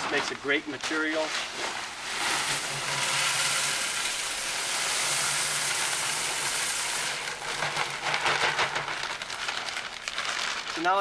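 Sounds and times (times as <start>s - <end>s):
pebbles pouring into a pot: 0.0s - 11.0s.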